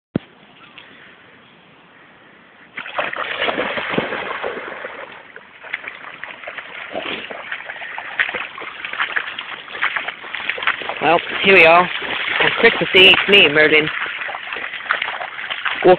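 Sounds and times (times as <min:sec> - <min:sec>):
wading splashes in shallow water: 0:02.8 - 0:15.9.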